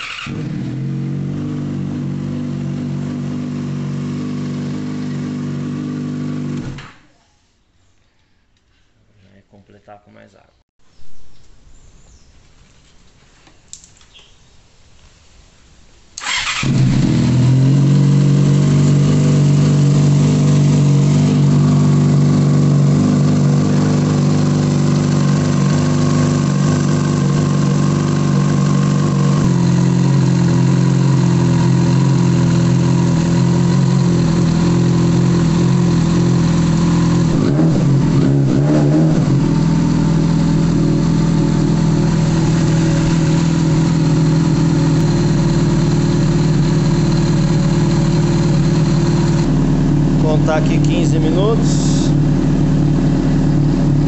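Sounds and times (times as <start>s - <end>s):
motorcycle engine starting and idling: 0.0s - 7.1s, 16.2s - 54.0s.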